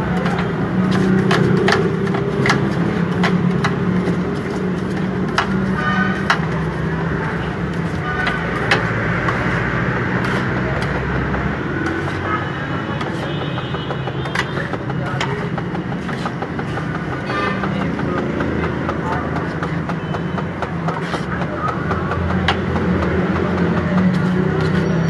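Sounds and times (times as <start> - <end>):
blades clacking on steel griddle: 0.0 - 25.0.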